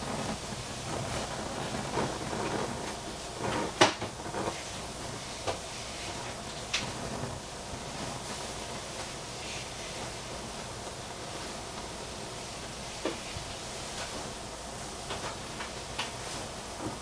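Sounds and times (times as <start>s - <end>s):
gas burners hissing: 0.0s - 17.0s.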